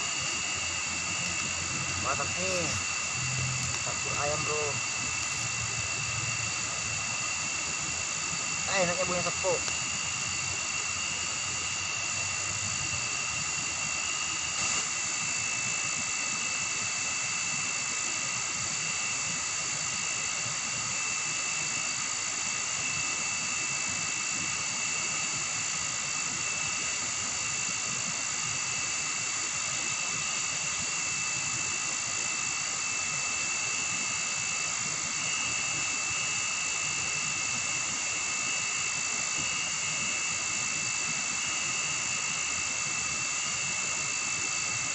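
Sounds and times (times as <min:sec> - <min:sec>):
night insect chorus: 0:00.0 - 0:44.9.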